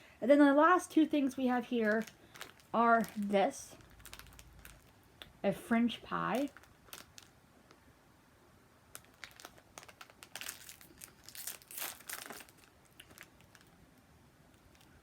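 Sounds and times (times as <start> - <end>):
plastic wrapper crinkling: 0.9 - 7.8, 8.9 - 15.0.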